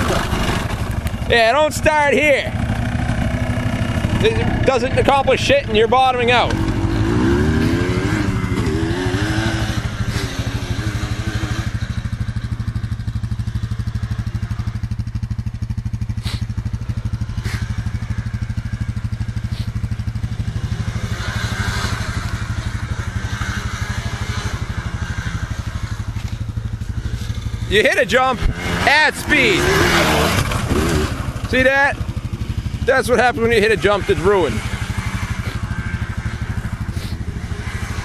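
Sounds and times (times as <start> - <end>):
quad engine idling: 0.0 - 38.0
quad engine revving: 0.0 - 38.0.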